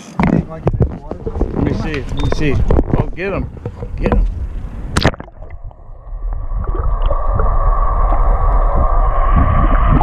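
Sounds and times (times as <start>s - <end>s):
muffled water rush and bubbling: 0.0s - 10.0s.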